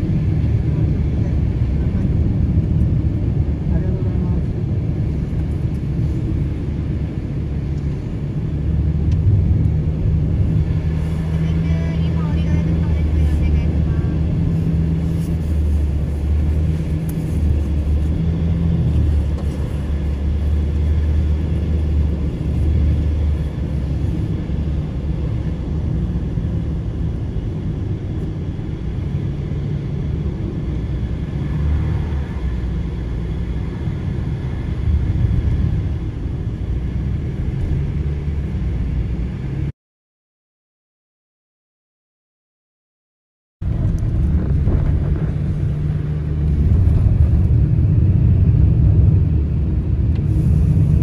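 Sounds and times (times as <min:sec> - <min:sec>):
vehicle road and engine rumble: 0:00.0 - 0:39.7, 0:43.6 - 0:51.0.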